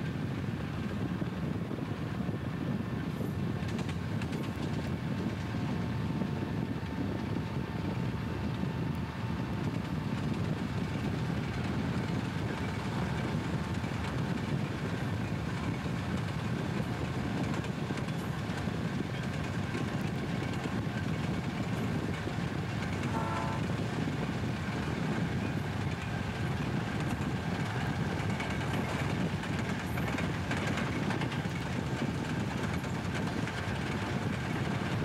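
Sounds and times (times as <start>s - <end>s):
diesel locomotive rumble: 0.0s - 35.0s.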